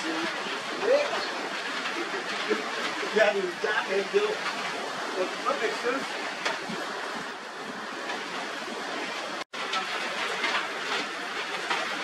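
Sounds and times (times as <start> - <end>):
rain: 0.0 - 12.0
wind: 0.0 - 12.0.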